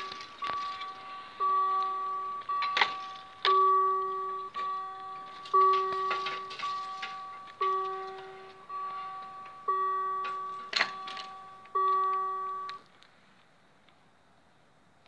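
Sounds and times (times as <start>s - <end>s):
level-crossing warning bell: 0.0s - 12.9s.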